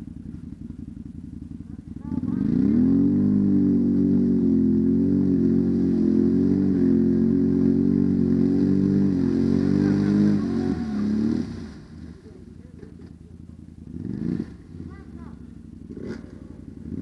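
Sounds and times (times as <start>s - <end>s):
dirt bike engine revving: 1.5s - 17.0s.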